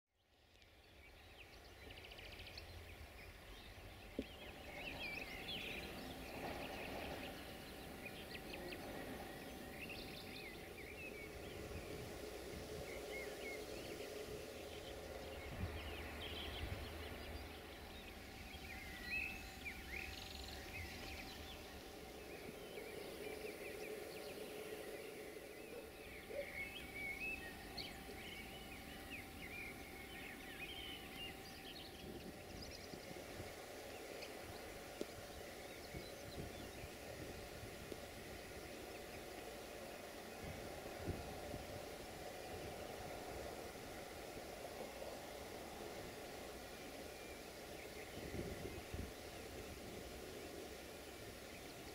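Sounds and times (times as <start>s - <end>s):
outdoor background noise: 0.1s - 51.9s
faint low hum: 0.2s - 51.9s
small birds chirping: 0.2s - 51.9s.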